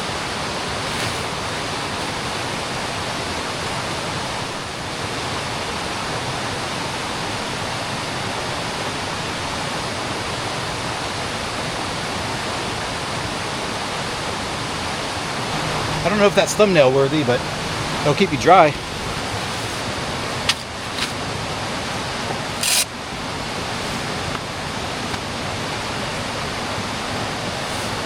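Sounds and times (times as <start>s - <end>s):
creek rushing over rocks: 0.0s - 28.0s.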